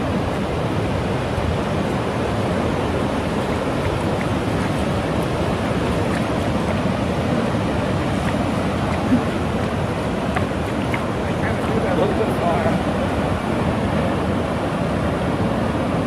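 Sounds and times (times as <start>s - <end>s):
ocean waves breaking on beach: 0.0s - 16.0s.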